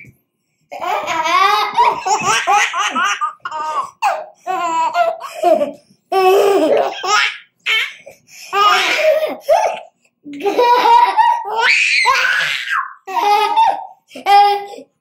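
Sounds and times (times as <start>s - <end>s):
baby laughing: 0.7s - 14.8s.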